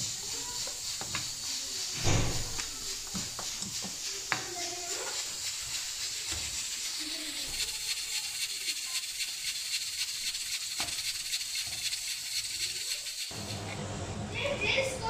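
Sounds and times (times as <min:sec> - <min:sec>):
steam hissing from pressure cooker: 0:00.0 - 0:13.8.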